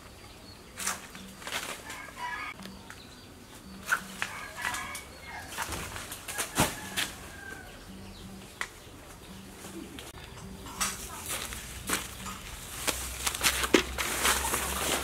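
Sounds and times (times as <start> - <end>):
banana leaves rustling: 0.7 - 3.0, 3.6 - 15.0.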